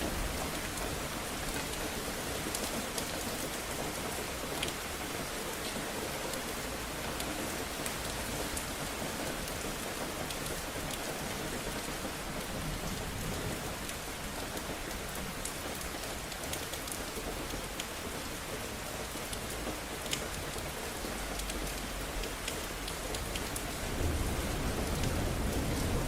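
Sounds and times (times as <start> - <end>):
rain on hard surfaces: 0.0 - 26.0
raindrop ticks: 0.0 - 26.0.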